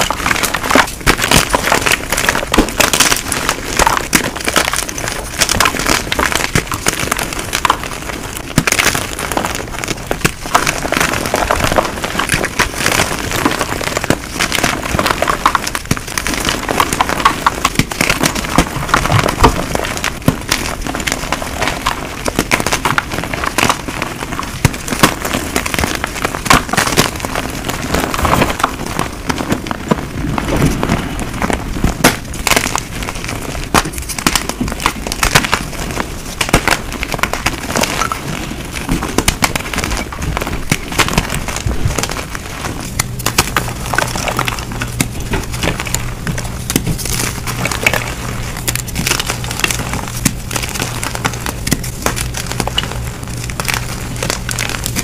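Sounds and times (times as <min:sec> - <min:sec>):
chalk crunching and crackling: 0:00.0 - 0:55.0.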